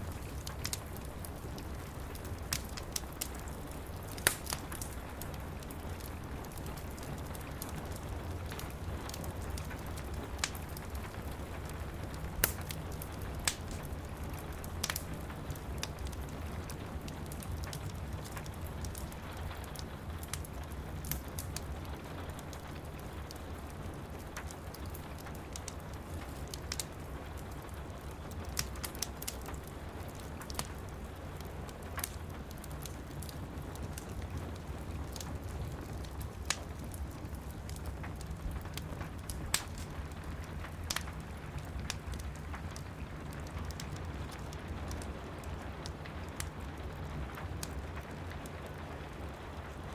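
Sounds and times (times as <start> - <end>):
rain pattering: 0.0 - 49.9
wood fire crackling: 0.0 - 49.9.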